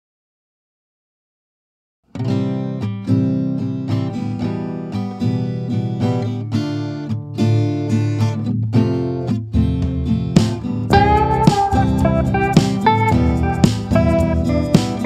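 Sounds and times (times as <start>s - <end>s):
acoustic guitar playing: 2.1s - 15.0s.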